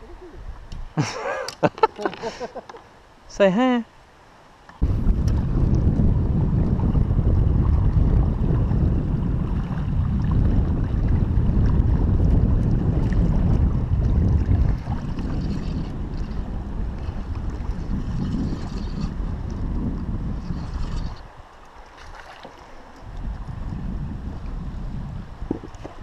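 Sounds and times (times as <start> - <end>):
wind rumbling on microphone: 4.8 - 26.0.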